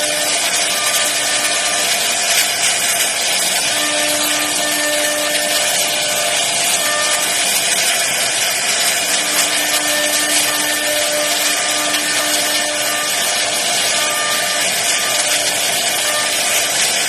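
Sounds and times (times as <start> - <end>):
router spindle carving wood: 0.0 - 17.0.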